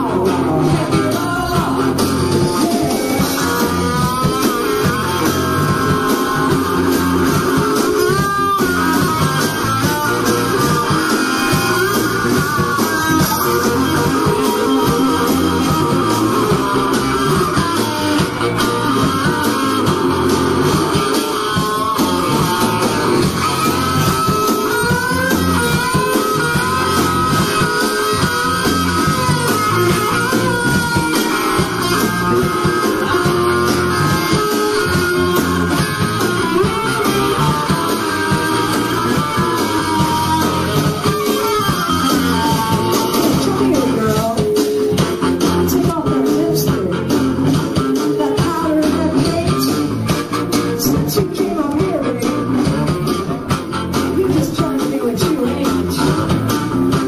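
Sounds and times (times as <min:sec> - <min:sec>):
electric guitar lead with bending notes: 0:00.0 - 0:57.0
repeating bass line: 0:00.0 - 0:57.0.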